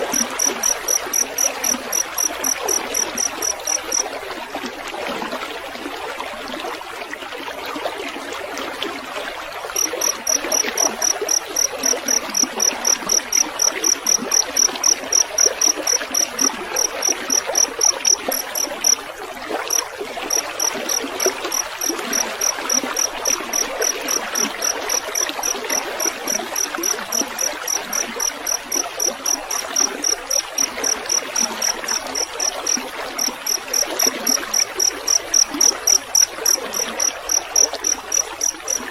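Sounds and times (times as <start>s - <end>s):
cricket chirping: 0.0s - 4.2s, 9.7s - 38.9s
water trickling: 0.0s - 38.9s.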